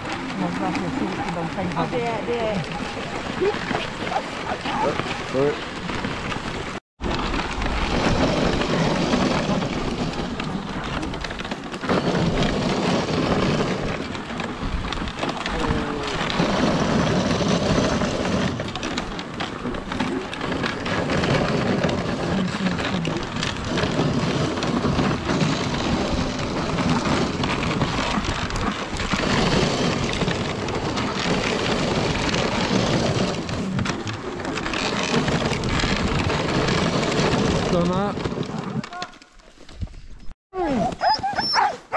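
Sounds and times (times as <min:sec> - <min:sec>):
sled runners scraping snow: 0:00.0 - 0:41.9.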